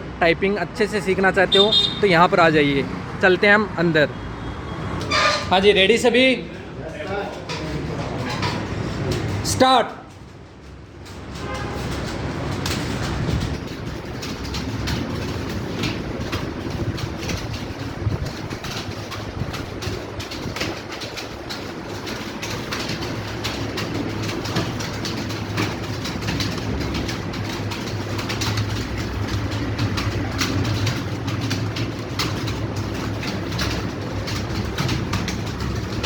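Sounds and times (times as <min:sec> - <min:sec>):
keyboards clattering: 0:00.8 - 0:04.1, 0:04.8 - 0:36.0.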